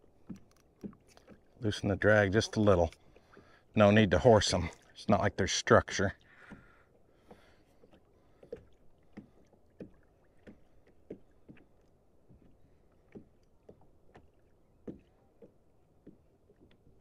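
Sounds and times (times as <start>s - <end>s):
water lapping against kayak hull: 0.0s - 17.0s.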